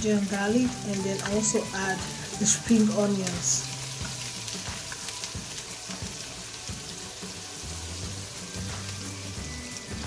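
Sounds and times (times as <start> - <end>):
background music: 0.0 - 10.0
onions sizzling in hot oil: 0.0 - 10.0.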